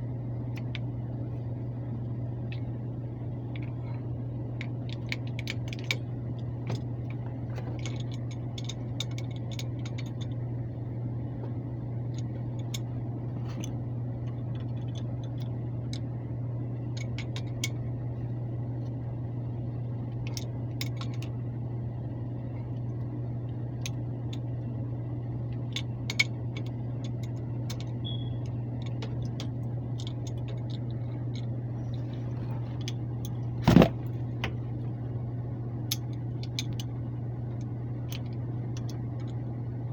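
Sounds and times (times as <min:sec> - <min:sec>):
air handler blower hum: 0:00.0 - 0:39.9.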